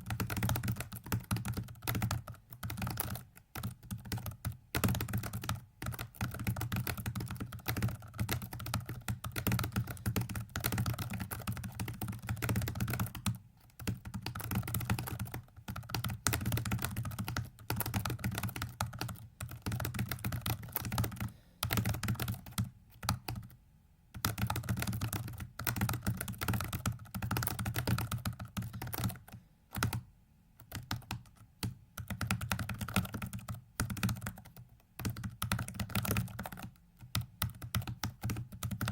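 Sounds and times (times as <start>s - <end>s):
rapid keyboard keystrokes: 0.0s - 23.6s, 24.2s - 38.9s.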